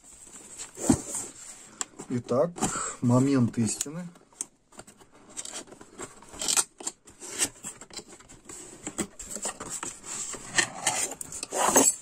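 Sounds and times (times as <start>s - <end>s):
cardboard scraping and rustling: 0.0s - 2.8s, 4.7s - 12.0s.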